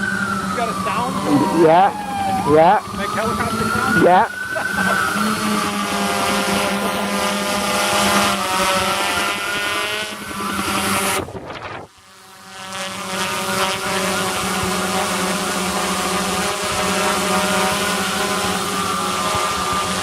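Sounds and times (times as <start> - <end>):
quadcopter whirring hum: 0.0 - 20.0.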